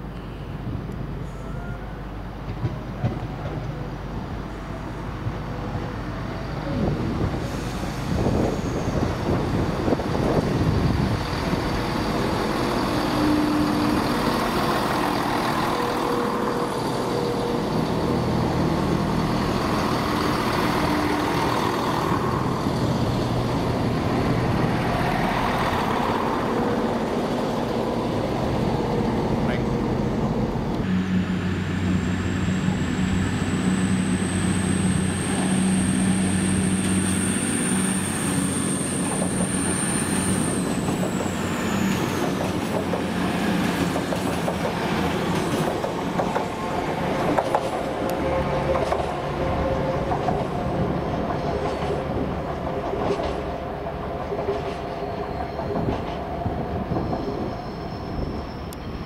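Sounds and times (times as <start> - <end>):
diesel train engine running: 3.4 - 59.0
wheels squealing on rails: 5.7 - 59.0.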